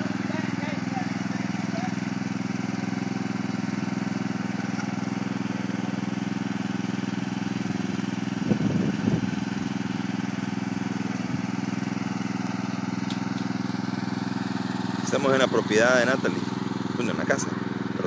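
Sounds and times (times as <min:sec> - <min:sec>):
riding mower engine idling: 0:00.0 - 0:18.0.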